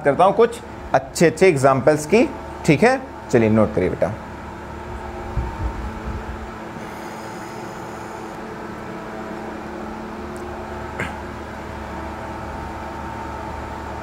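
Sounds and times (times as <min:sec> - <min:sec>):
mechanical room hum: 0:00.0 - 0:14.0.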